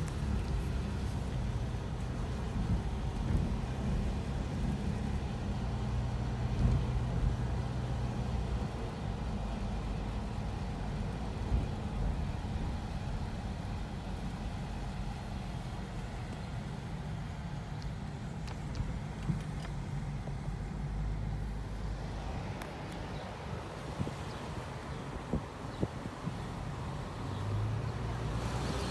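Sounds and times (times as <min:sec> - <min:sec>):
car engine and tyre noise: 0:00.0 - 0:28.9.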